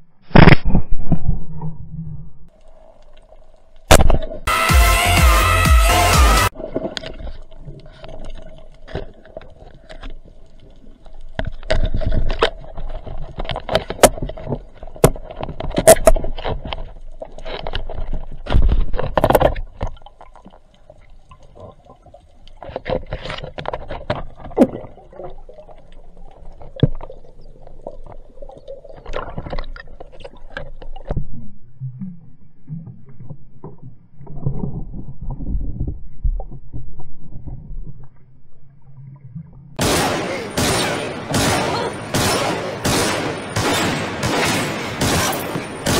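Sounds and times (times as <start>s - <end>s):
underwater water noise: 0.0s - 4.5s, 6.5s - 44.2s.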